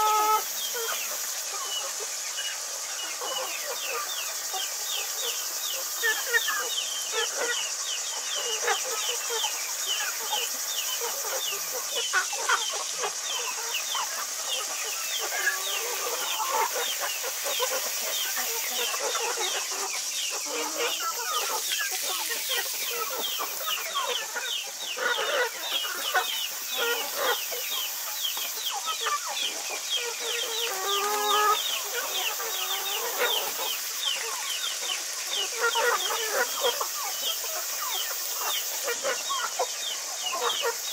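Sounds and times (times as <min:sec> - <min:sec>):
hens clucking: 0:00.0 - 0:40.9
steady high hiss: 0:00.0 - 0:40.9.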